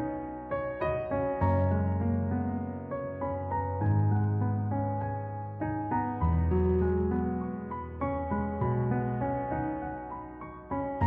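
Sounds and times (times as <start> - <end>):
gentle classical piano piece: 0.0 - 11.0.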